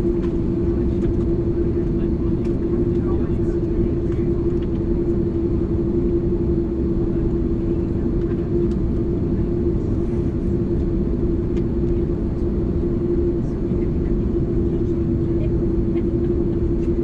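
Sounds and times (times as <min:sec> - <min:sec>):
airplane cabin rumble: 0:00.0 - 0:17.0
constant hum: 0:00.0 - 0:17.0.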